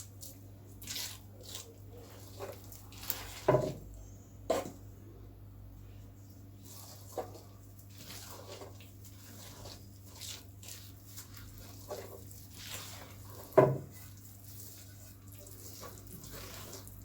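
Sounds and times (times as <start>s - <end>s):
hands mixing dough: 0.0s - 17.0s.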